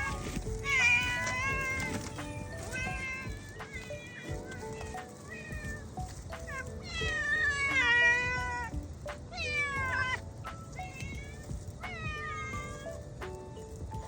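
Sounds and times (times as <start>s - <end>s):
cat meowing: 0.0s - 13.0s
background music: 0.0s - 14.0s.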